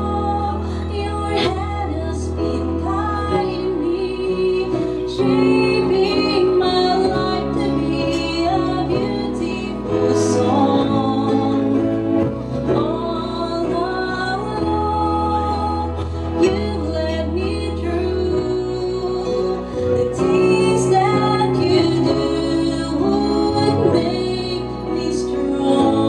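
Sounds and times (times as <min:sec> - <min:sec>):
slow instrumental accompaniment: 0:00.0 - 0:26.0
woman singing: 0:00.0 - 0:26.0.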